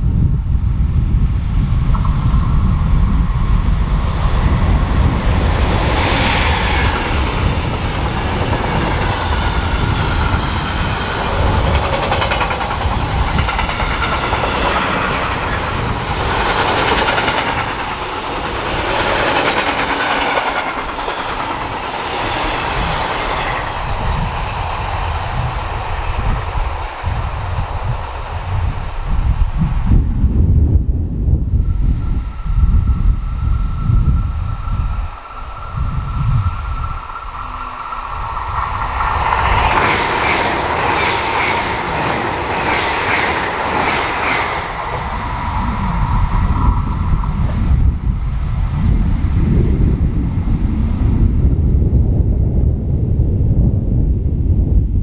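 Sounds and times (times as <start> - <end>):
train rumbling and clattering: 0.0 - 55.0.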